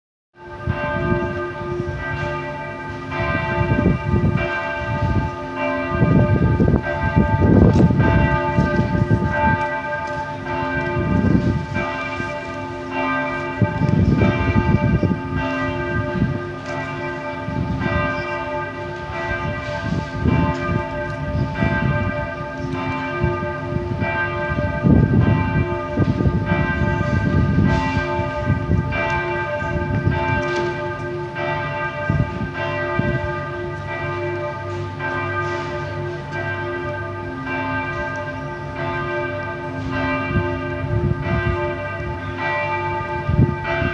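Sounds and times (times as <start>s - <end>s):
church bells ringing: 0.4s - 43.9s.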